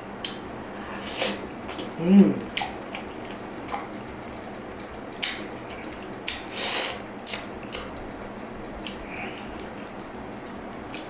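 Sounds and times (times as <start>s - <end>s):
wet eating smacks and clicks: 0.2s - 0.5s, 1.2s - 11.0s.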